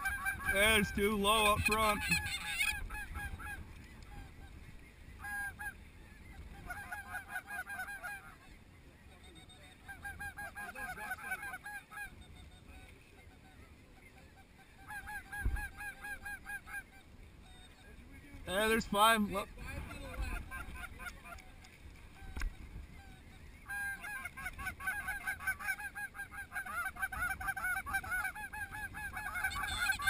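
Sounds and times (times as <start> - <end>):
snow geese honking: 0.0 - 30.0.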